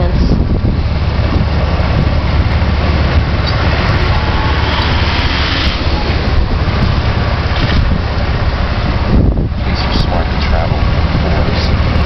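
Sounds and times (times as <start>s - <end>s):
small vehicle rumbling on rough street: 0.0s - 12.0s
wind buffeting microphone: 0.0s - 12.0s.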